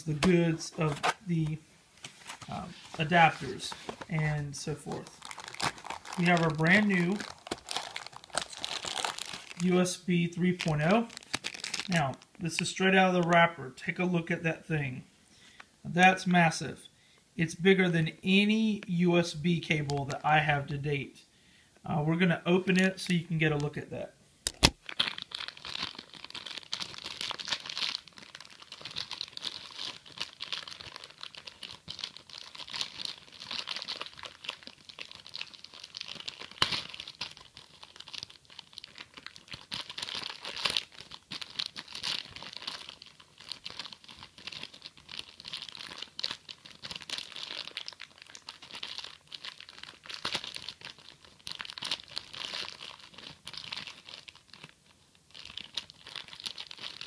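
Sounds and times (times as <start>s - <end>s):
plastic wrapper crinkling: 0.0s - 13.5s, 24.5s - 57.0s.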